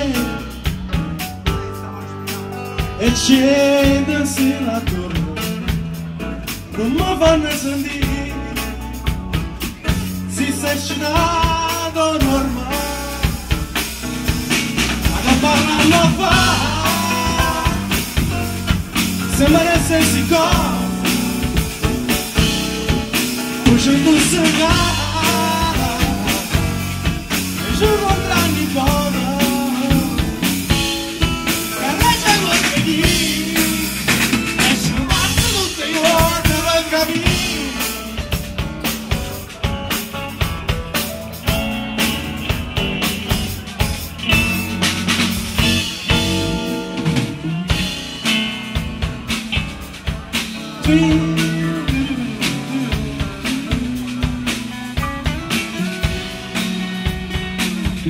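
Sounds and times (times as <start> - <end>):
man singing: 0.0 - 1.2, 2.7 - 40.4, 43.0 - 58.0
drum kit: 0.0 - 58.0
electric guitars: 0.0 - 58.0.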